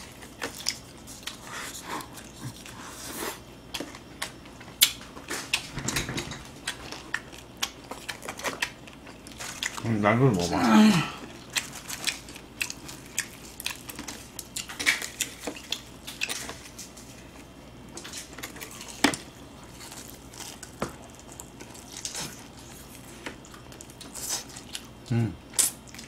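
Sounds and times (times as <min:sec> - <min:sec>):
chewing fried chicken: 0:00.0 - 0:05.6, 0:06.6 - 0:26.0.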